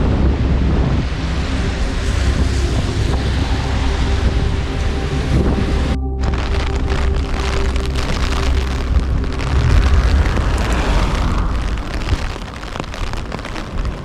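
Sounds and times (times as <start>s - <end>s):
torrential rain: 0.0s - 14.0s
wind gusts hitting microphone: 0.0s - 14.0s.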